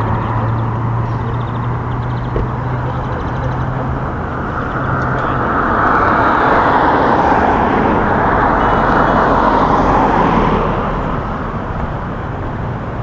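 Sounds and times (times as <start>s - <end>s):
car passing by: 0.0s - 13.0s.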